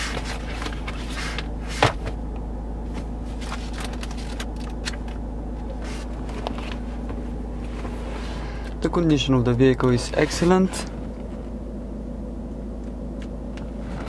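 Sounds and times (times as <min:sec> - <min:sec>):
low hum inside car: 0:00.0 - 0:14.0.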